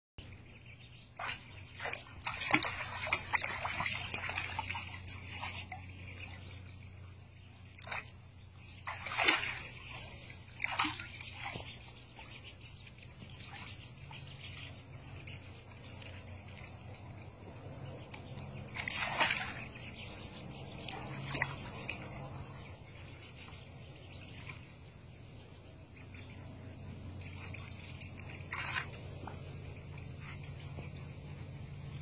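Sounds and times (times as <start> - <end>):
paws splashing water: 1.0 - 32.0.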